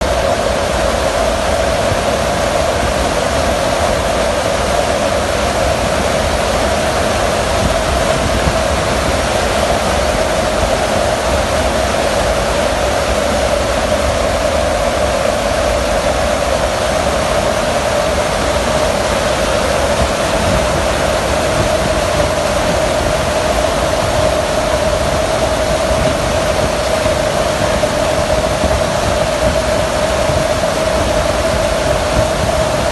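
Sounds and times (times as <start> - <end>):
jet engine running: 0.0 - 32.9.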